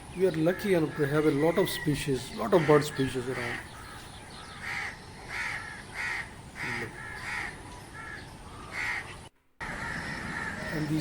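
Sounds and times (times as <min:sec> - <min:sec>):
bird harsh calls: 0:00.0 - 0:11.0.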